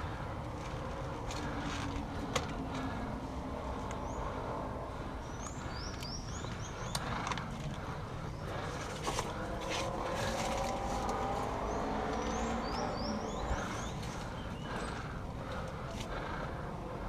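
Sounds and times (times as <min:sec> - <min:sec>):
low outdoor rumble: 0:00.0 - 0:17.0
songbird chirping: 0:00.9 - 0:17.0.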